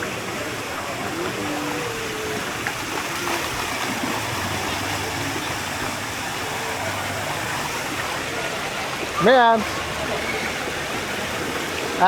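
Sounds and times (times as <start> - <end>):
faint children's voices: 0.0 - 12.0
running splashing water: 0.0 - 12.0.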